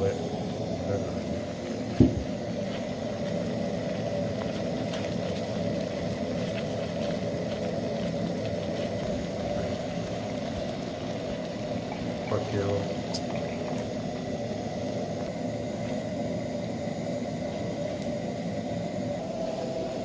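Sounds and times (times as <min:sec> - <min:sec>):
risotto simmering: 0:00.0 - 0:20.0.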